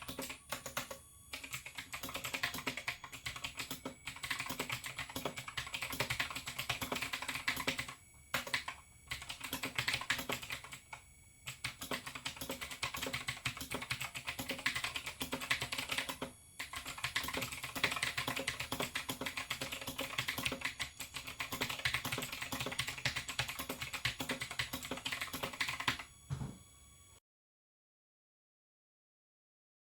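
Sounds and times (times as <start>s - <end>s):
mechanical keyboard typing: 0.0s - 10.9s, 11.5s - 26.1s.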